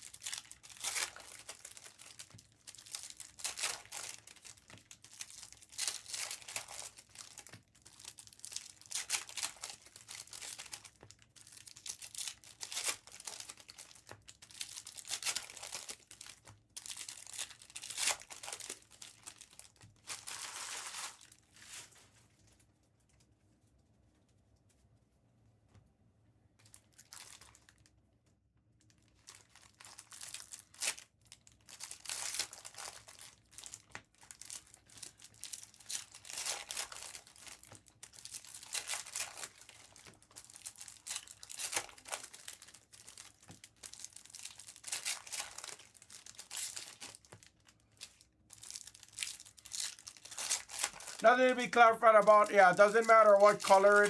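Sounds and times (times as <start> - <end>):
plastic wrappers tearing and crinkling: 0.0 - 22.0, 26.7 - 27.9, 28.9 - 54.0.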